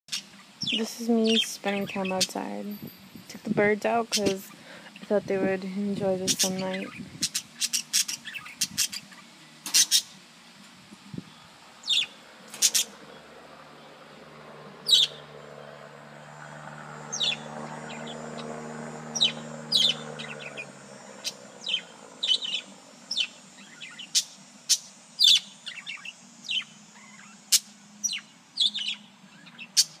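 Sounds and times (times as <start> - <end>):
parakeets chirping: 0.1 - 2.9, 3.6 - 10.2, 11.1 - 30.0
low steady hum: 0.3 - 29.8.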